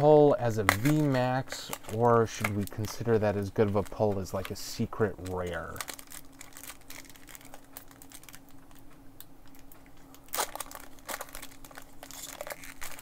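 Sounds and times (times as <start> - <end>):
card pack wrappers crinkling: 0.0 - 13.0
faint steady hum: 0.0 - 13.0.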